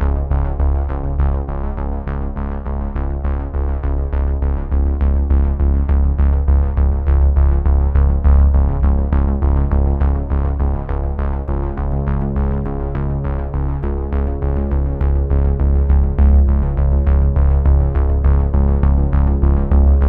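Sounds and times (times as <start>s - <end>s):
deep bass: 0.0s - 20.0s
pulsing synthesizer notes: 0.0s - 20.0s.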